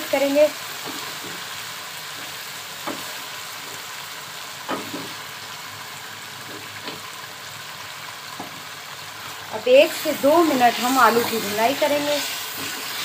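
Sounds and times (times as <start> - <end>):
curry sizzling in a pot: 0.0 - 13.0.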